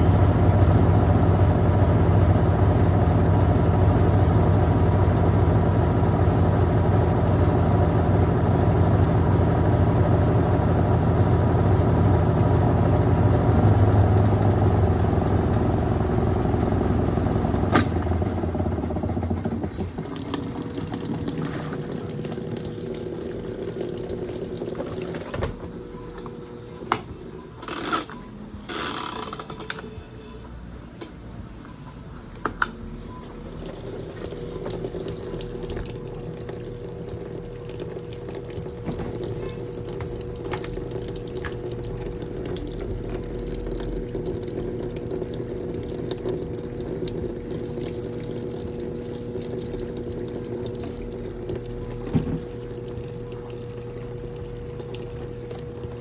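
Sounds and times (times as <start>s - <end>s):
water running in machine: 0.0s - 28.0s, 33.3s - 56.0s
washing machine motor humming: 0.0s - 30.3s, 32.6s - 56.0s.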